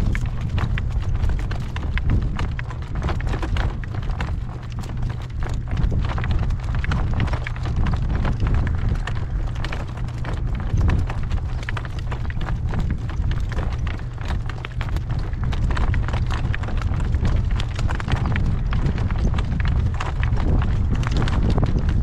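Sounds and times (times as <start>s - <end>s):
horse hooves clip-clopping on dirt: 0.0s - 22.0s
steady low rumble: 0.0s - 22.0s.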